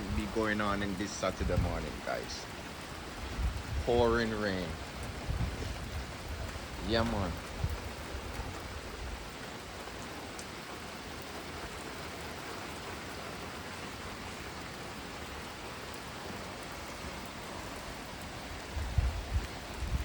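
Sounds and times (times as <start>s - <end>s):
heavy pouring rain: 0.0s - 20.0s.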